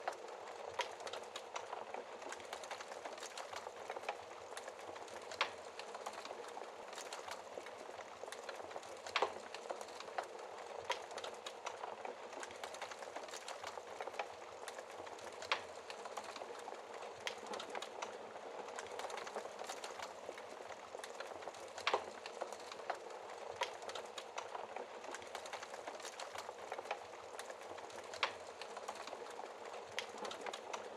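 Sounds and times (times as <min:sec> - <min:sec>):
logs burning with crackles: 0:00.0 - 0:30.9.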